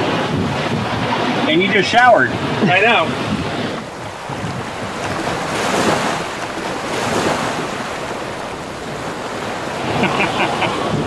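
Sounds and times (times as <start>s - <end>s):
waves rushing along boat hull: 0.0s - 11.0s.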